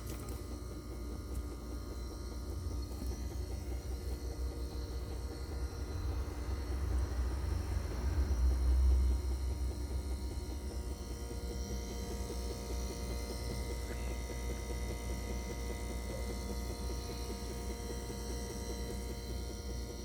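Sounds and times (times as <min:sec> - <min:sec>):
refrigerator humming: 0:00.0 - 0:20.0.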